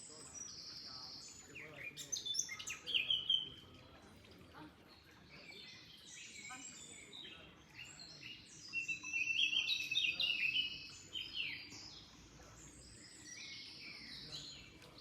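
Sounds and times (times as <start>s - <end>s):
faint flowing water: 0.0s - 15.0s
songbirds chirping and trilling: 0.0s - 15.0s.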